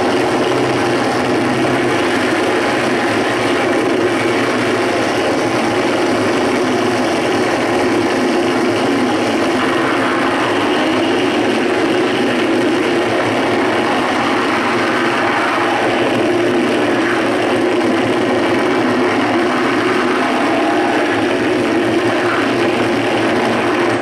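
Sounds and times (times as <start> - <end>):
droning noise music: 0.0 - 24.0.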